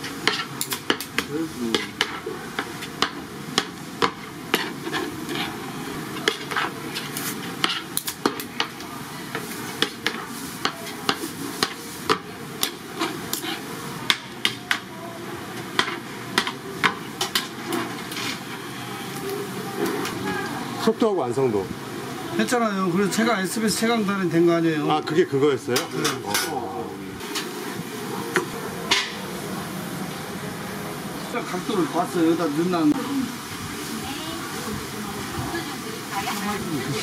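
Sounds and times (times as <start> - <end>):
oil deep-frying hiss: 0.0 - 37.0.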